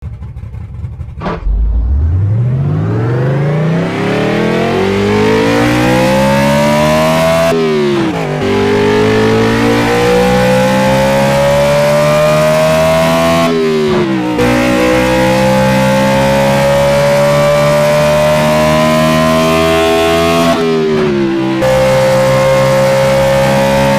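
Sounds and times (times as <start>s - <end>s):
car engine accelerating: 0.1s - 23.9s.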